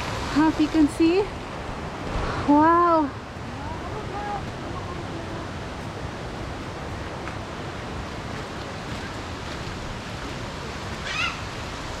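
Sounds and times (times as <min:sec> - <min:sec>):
waterfall roar: 0:00.0 - 0:12.0.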